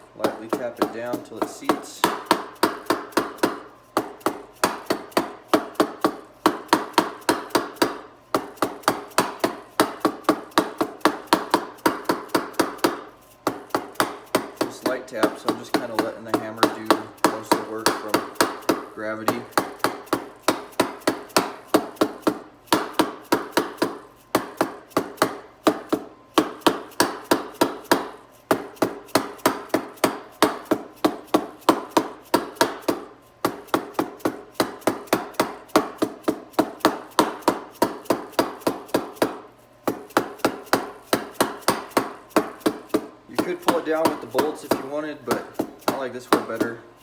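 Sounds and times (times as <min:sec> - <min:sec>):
hammer tapping metal: 0:00.0 - 0:47.0.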